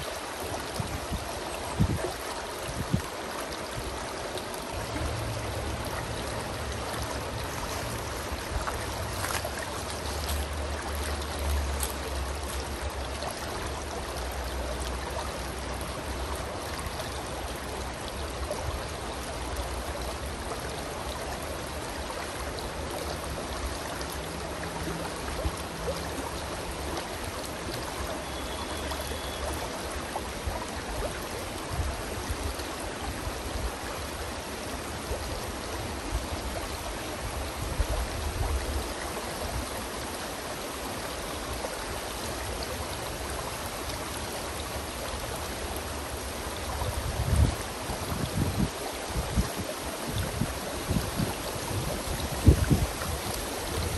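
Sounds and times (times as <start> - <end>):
stream rippling over rocks: 0.0 - 53.9.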